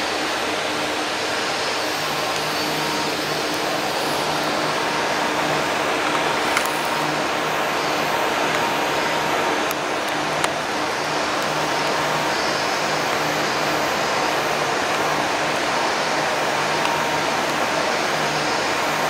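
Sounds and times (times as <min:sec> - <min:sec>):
air-handling drone: 0:00.0 - 0:19.0.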